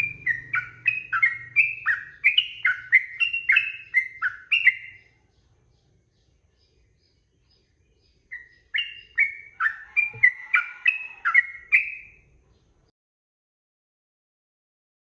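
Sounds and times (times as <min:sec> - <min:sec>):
bird singing whistled notes: 0:00.0 - 0:12.3.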